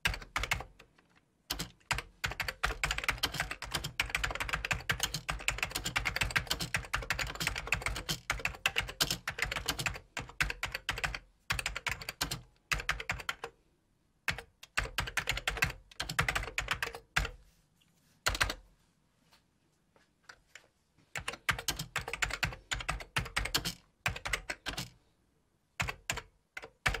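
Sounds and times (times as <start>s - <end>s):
keyboard typing: 0.0s - 13.6s, 14.3s - 17.4s, 18.2s - 18.6s, 20.5s - 25.0s, 25.8s - 27.0s.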